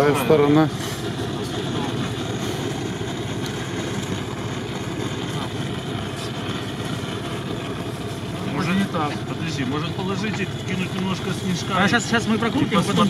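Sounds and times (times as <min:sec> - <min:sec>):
gas torch flame burning: 0:00.0 - 0:13.0.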